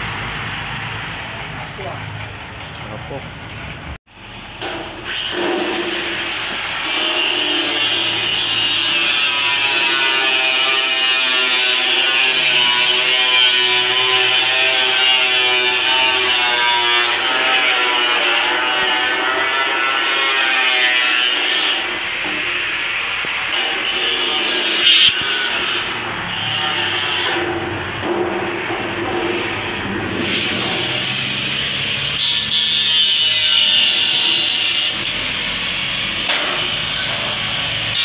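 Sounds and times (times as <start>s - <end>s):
angle grinder cutting sheet metal: 4.6s - 38.0s.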